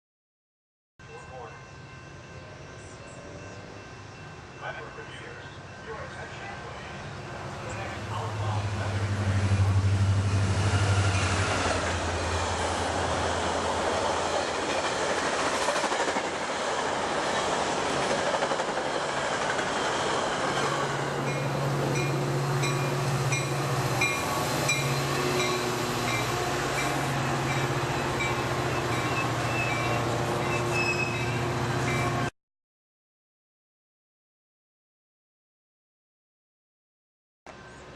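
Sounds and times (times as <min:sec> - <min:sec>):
train engine drone: 0:01.0 - 0:32.3, 0:37.5 - 0:37.9
train wheels on rail: 0:01.9 - 0:32.3.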